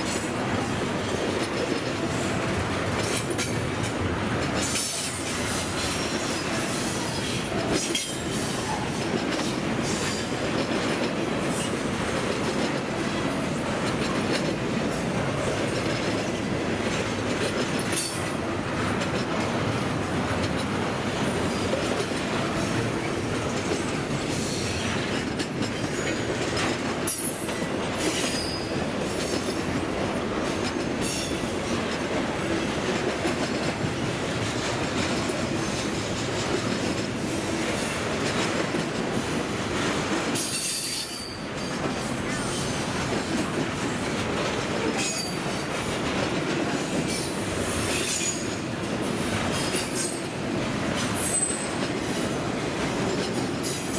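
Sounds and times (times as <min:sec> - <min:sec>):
steel wheels running on rails: 0:00.0 - 0:53.9.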